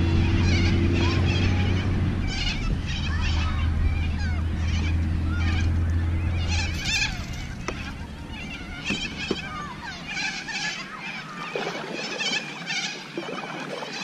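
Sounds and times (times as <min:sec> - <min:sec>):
birds calling: 0:00.0 - 0:14.0
low hum: 0:00.0 - 0:14.0.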